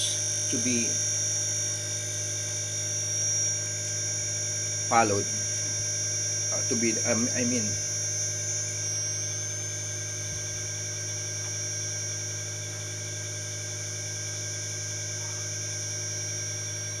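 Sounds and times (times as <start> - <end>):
air conditioner electrical hum: 0.0 - 17.0
high-pitched whine: 0.0 - 17.0.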